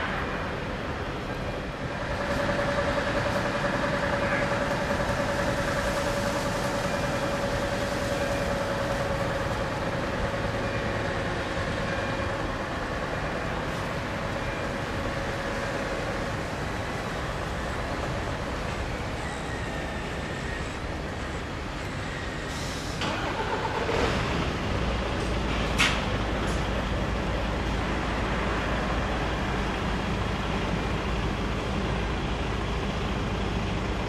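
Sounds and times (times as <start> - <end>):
diesel truck engine running: 0.0 - 34.0.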